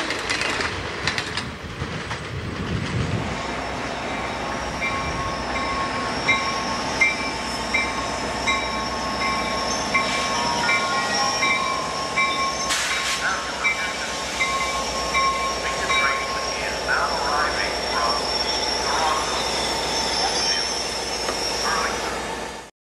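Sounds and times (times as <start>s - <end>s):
train engine and wheel noise: 0.0s - 22.7s
locomotive bell ringing: 4.0s - 22.6s.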